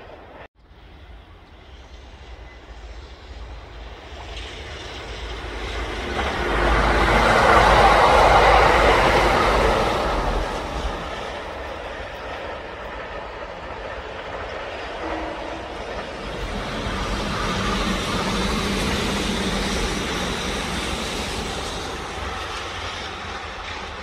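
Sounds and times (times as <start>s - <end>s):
electric train running on rails: 0.0s - 24.0s.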